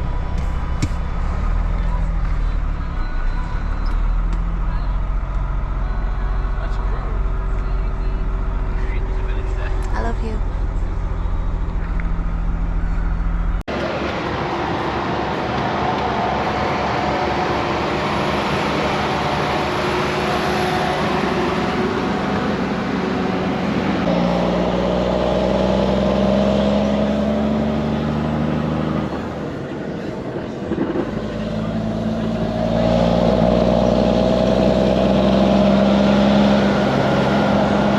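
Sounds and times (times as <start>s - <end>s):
diesel truck engine drone: 0.0s - 37.9s
road and wind noise: 0.0s - 37.9s.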